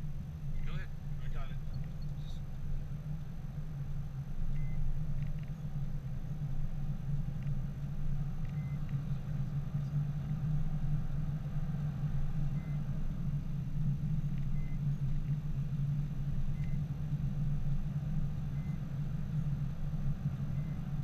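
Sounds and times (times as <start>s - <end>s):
car engine and tyres drone: 0.0s - 21.0s.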